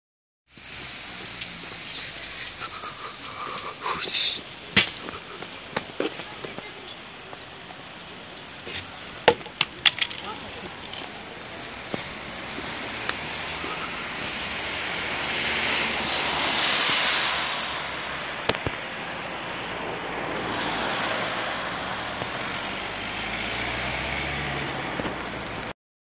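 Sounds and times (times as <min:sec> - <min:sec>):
bus driving past: 0:00.5 - 0:09.3, 0:10.2 - 0:25.7.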